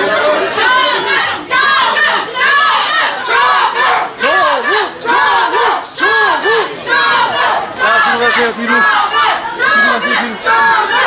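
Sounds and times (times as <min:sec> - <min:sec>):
crowd shouting: 0:00.0 - 0:11.0.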